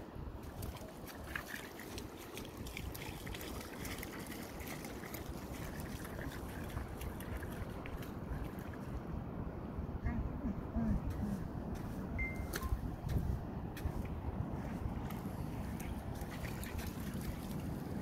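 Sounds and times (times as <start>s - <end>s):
wind buffeting microphone: 0.2s - 18.0s.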